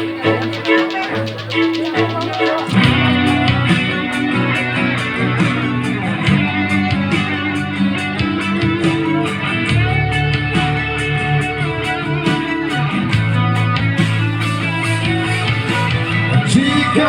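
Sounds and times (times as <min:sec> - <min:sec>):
guitar playing melody: 0:00.0 - 0:16.7
bass: 0:00.0 - 0:17.0
drums: 0:00.0 - 0:17.0.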